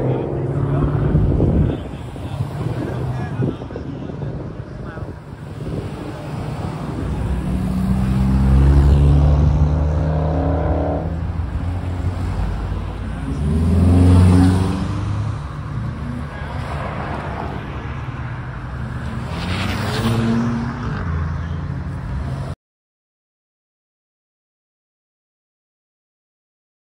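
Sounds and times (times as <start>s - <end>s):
car accelerating: 0.0s - 22.5s
cars driving past: 0.0s - 22.6s.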